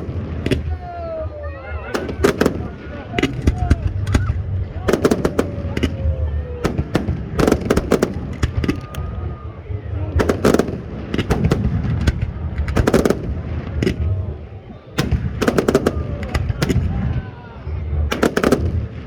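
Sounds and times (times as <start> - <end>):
low rumble: 0.0 - 18.2
firework bangs and crackles: 0.0 - 19.0.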